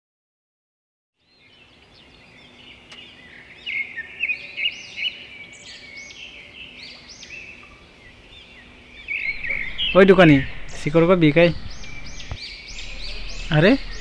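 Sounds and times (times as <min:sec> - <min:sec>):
birds chirping: 0:01.2 - 0:14.0
outdoor background noise: 0:01.2 - 0:14.0.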